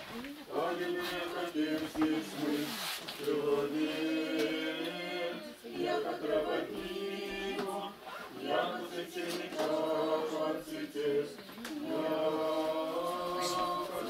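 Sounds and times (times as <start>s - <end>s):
voices singing a cappella: 0.0s - 14.0s.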